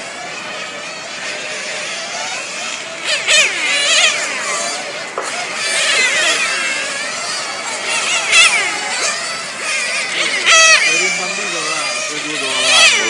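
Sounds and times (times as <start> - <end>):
model car engines screaming: 0.0 - 13.0.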